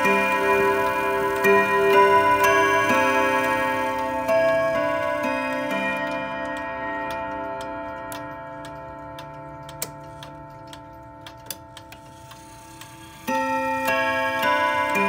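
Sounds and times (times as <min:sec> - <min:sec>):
clock chime rods ringing: 0:00.0 - 0:15.0
clock ticking: 0:00.0 - 0:15.0.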